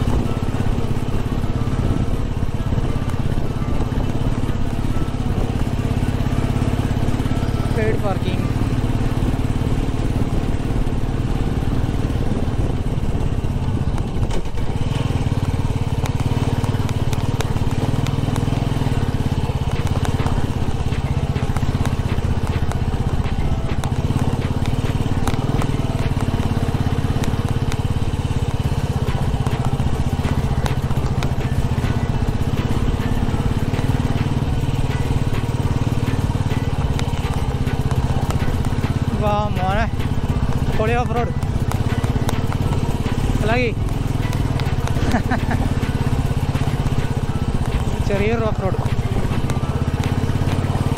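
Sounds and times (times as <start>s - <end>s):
motorcycle engine running: 0.0s - 50.9s
stones crunching under tyres: 2.8s - 50.9s.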